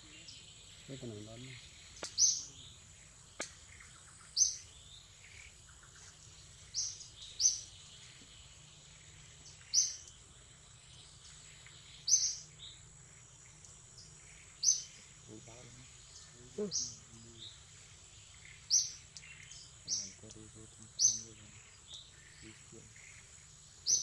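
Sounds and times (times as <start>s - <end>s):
bird chirping: 0.0s - 24.0s
faint high whine: 0.0s - 24.0s.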